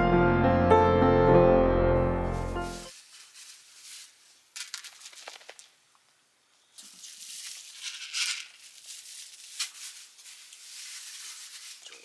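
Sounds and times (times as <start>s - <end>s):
rustling and crinkling: 2.2s - 12.0s.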